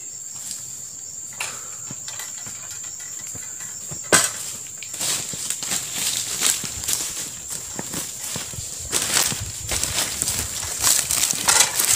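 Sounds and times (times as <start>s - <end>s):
high-pitched insect drone: 0.0s - 11.9s.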